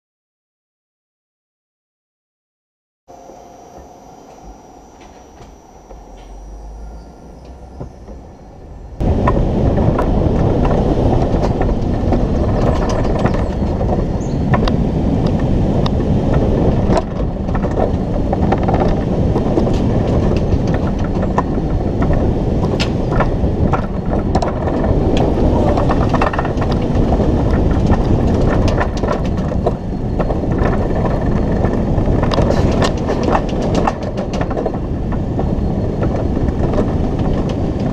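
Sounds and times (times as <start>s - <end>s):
wheels rattling on rails: 3.8s - 37.9s.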